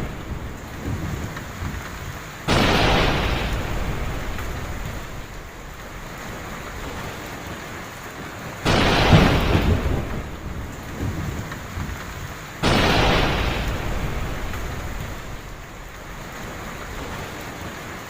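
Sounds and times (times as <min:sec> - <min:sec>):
heavy rain falling: 0:00.0 - 0:18.0
thunderclaps rumbling: 0:00.0 - 0:18.0.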